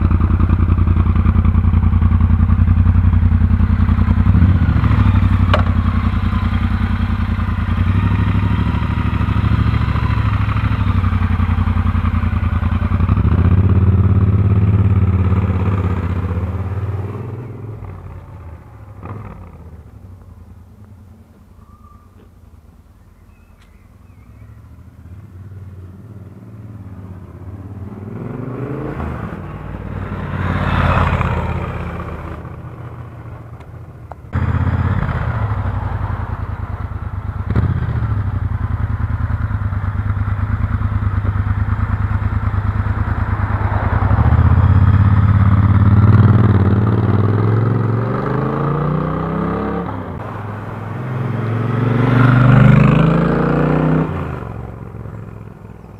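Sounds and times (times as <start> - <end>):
motorcycle engine: 0.0 - 21.0, 24.0 - 55.9.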